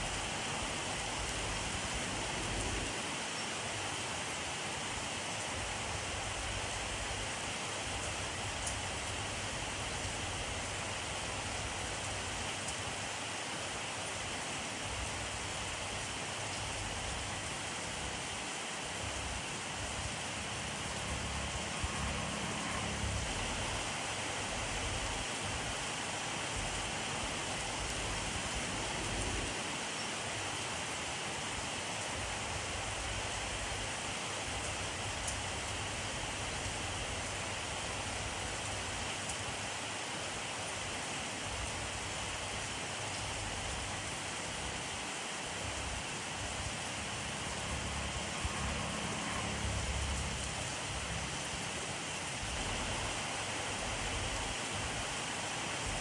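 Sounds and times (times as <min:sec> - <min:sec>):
rain hissing on surfaces: 0:00.0 - 0:56.0.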